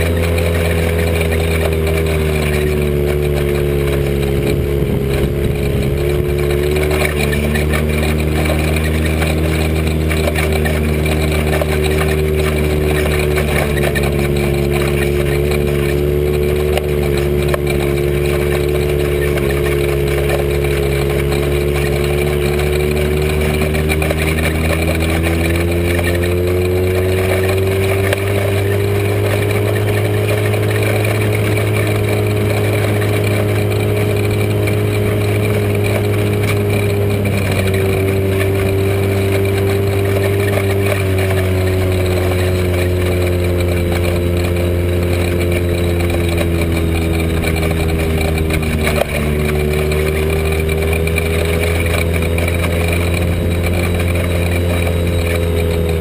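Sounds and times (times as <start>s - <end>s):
dune buggy engine under load: 0.0s - 56.0s.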